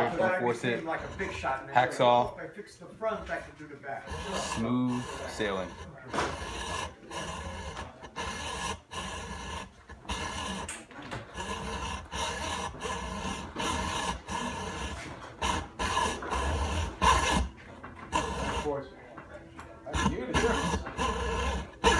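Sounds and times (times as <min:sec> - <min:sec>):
hacksaw rasping through tube: 0:00.0 - 0:02.4, 0:03.0 - 0:18.8, 0:19.8 - 0:21.9.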